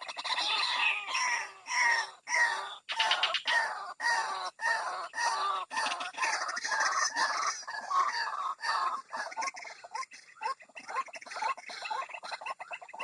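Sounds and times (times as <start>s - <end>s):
waterhen calls: 0.0s - 13.0s.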